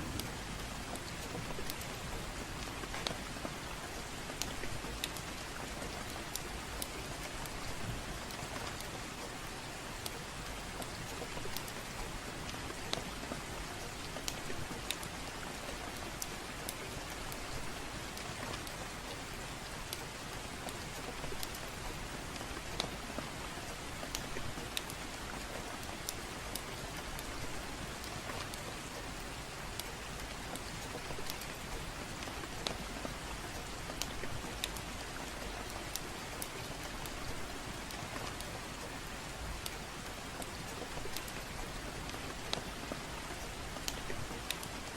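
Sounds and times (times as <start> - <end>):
gentle rain: 0.0 - 44.9
wood fire crackling: 0.0 - 44.9.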